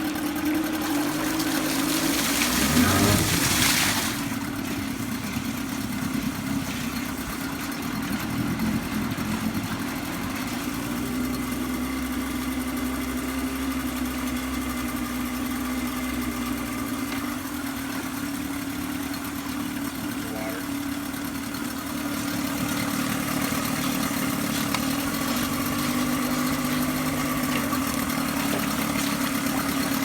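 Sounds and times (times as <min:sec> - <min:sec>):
outboard motor idling: 0:00.0 - 0:30.0.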